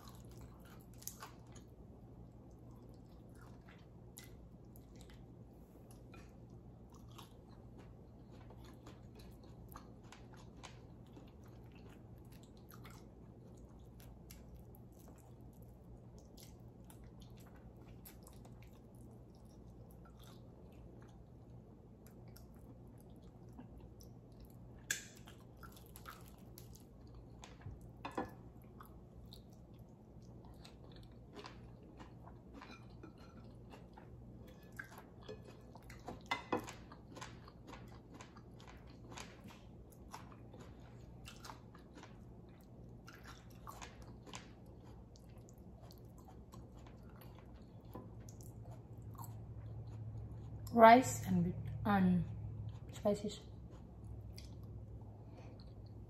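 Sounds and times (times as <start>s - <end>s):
person chewing fried fish: 0.0s - 50.7s, 52.3s - 56.0s
low steady hum: 0.0s - 56.0s.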